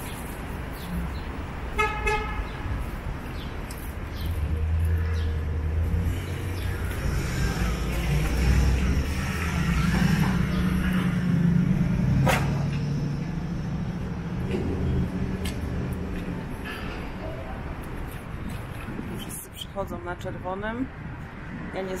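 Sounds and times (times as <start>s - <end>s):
heavy vehicle engine humming: 0.0s - 18.8s
city street traffic: 0.0s - 22.0s.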